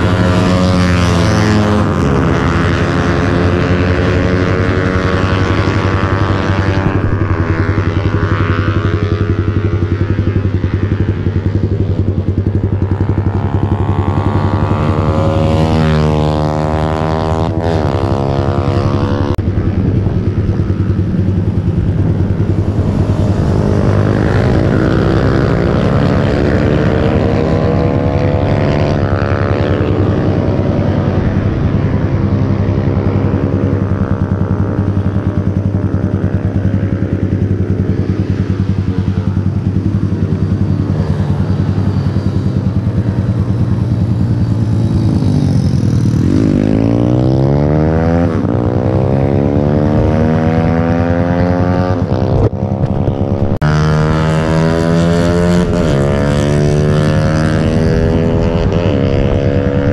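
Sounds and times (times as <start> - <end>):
wind rush: 0.0 - 10.5, 16.3 - 35.6, 36.4 - 59.9
motorcycle engine revving: 0.0 - 59.9.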